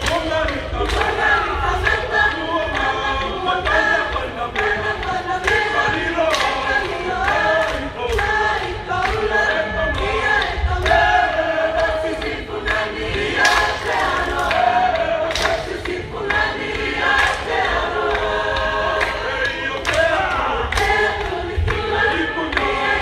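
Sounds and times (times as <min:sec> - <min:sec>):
choir singing: 0:00.0 - 0:23.0.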